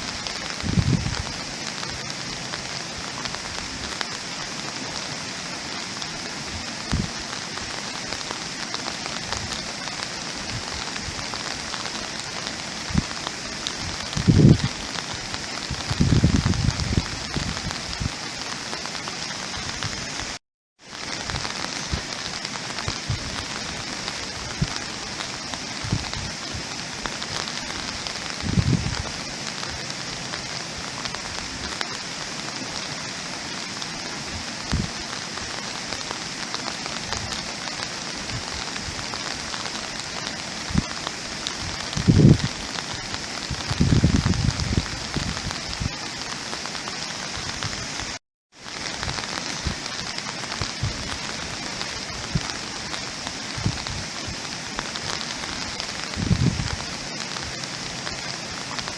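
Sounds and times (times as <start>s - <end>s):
heavy raindrops thudding: 0.0s - 58.9s
rain hissing: 0.0s - 58.9s.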